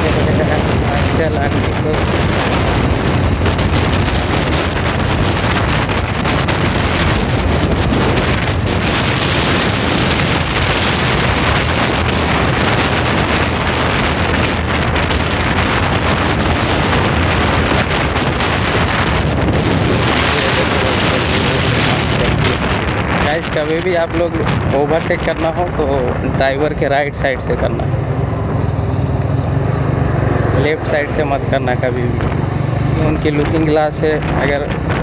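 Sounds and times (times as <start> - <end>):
motorcycle engine running: 0.0 - 23.3, 26.2 - 35.0
wind rush on microphone: 0.0 - 35.0.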